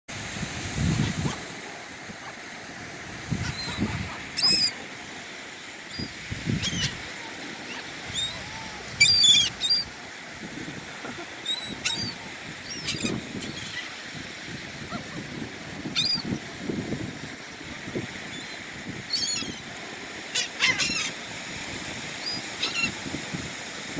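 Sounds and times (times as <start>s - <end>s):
wind rumbling on microphone: 0.1s - 4.7s, 5.9s - 23.9s
surf: 0.1s - 23.9s
gulls calling: 0.8s - 16.5s, 18.2s - 23.2s.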